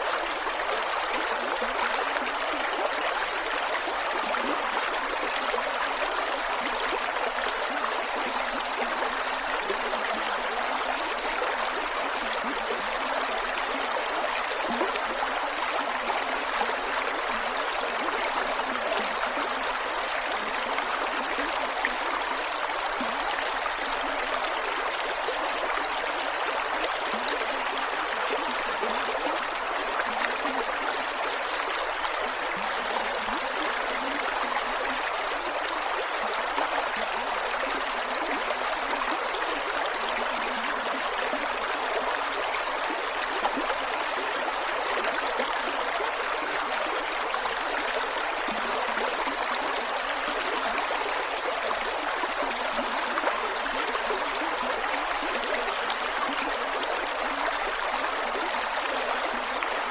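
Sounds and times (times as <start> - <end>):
creek water over rocks: 0.0 - 59.9.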